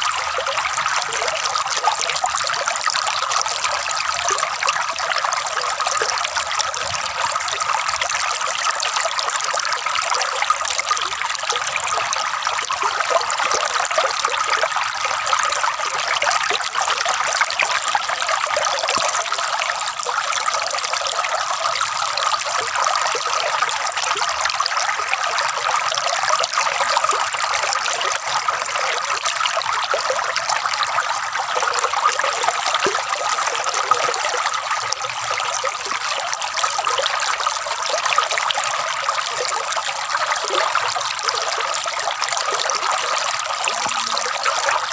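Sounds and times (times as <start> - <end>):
water trickling and gurgling: 0.0 - 44.9.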